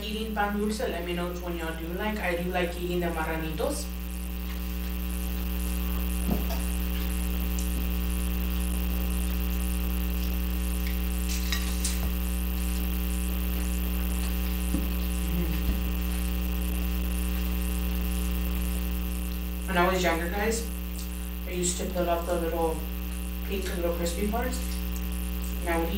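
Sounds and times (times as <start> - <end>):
electrical mains hum: 0.0 - 25.9.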